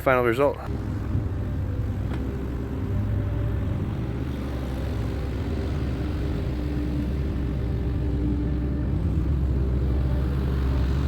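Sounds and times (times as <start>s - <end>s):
diesel engine running: 0.6s - 11.0s.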